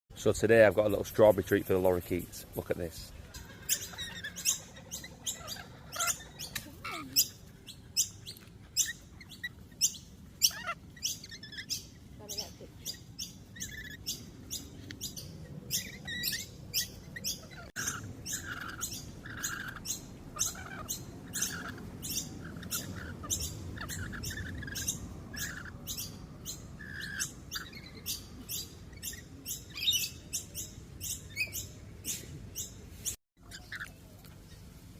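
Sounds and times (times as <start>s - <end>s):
lorikeets chattering: 0.2s - 34.7s.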